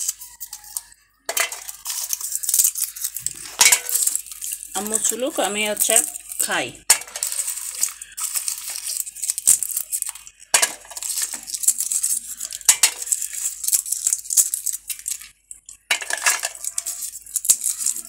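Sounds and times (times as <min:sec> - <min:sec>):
husks crackling and snapping: 0:00.0 - 0:18.0
seeds clinking on plate and bowl: 0:00.0 - 0:18.0.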